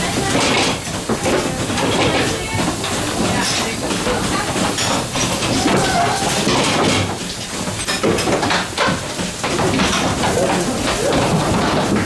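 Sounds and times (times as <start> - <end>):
clatters and knocks: 0.0 - 12.0
milking machinery hiss: 0.0 - 12.0.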